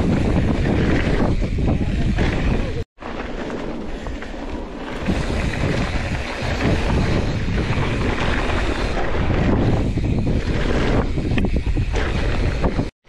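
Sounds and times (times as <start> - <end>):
wind on microphone: 0.0 - 2.8, 3.9 - 13.0
bike rattling over bumps: 0.0 - 12.9
bike tyres on dirt trail: 0.0 - 12.9.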